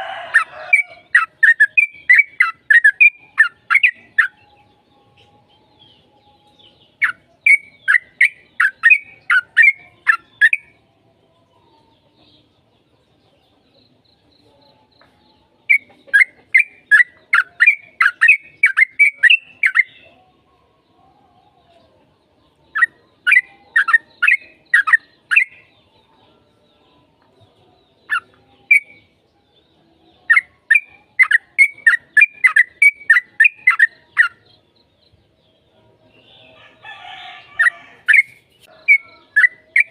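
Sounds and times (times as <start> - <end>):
bulbul singing bubbling song: 0.0 - 12.9, 14.8 - 21.4, 22.1 - 36.5, 37.6 - 39.9.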